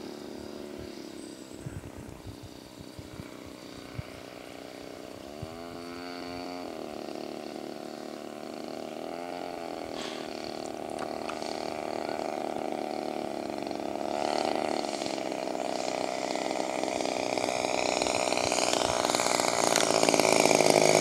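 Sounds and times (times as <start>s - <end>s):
model plane engine in flight: 0.0s - 21.0s.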